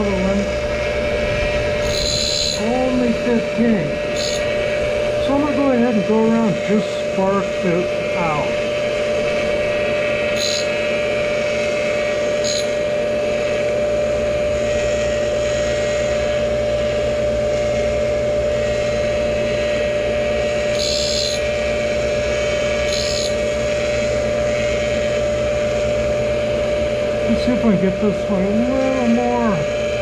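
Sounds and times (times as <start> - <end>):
grinder motor whine: 0.0 - 30.0.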